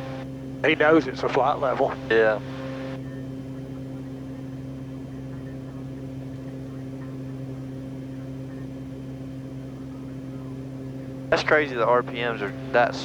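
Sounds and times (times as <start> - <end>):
turboprop engine drone in cockpit: 0.0 - 13.0.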